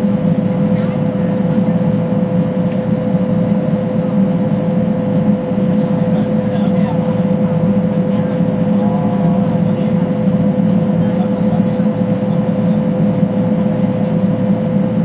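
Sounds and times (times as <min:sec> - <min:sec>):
gas turbine drone with whine: 0:00.0 - 0:15.0.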